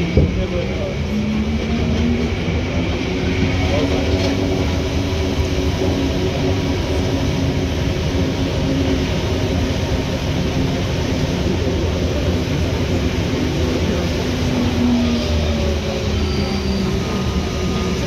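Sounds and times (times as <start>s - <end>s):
metro train interior rumble: 0.0s - 18.0s.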